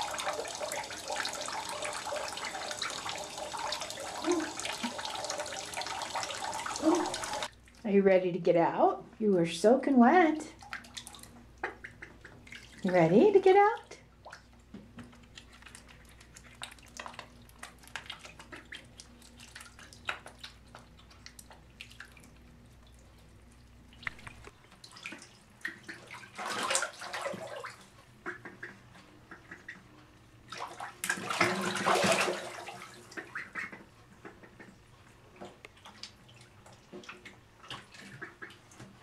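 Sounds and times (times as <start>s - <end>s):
ducklings splashing in water: 0.0s - 7.5s, 10.6s - 29.8s, 30.5s - 34.8s, 35.8s - 39.0s.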